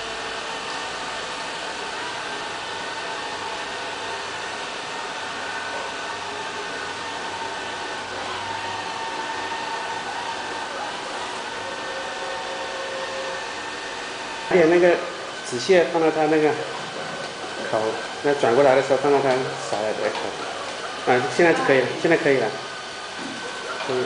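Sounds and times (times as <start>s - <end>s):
robot vacuum cleaner whirring: 0.0s - 24.0s.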